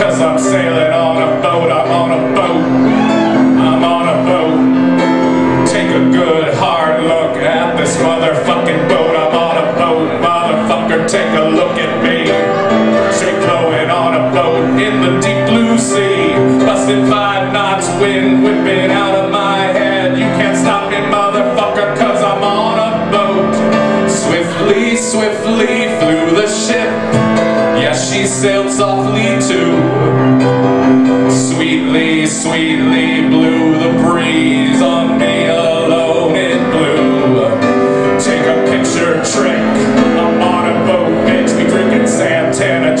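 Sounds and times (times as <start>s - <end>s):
man singing: 0.0s - 43.0s
piano playing: 0.0s - 43.0s.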